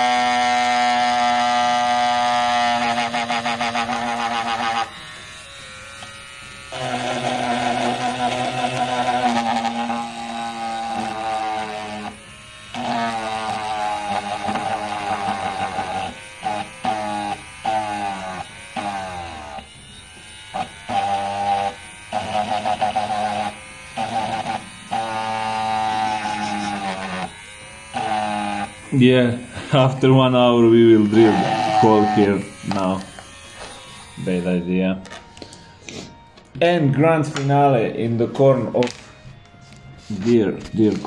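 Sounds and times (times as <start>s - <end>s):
rotary tool motor whining: 0.0s - 36.3s.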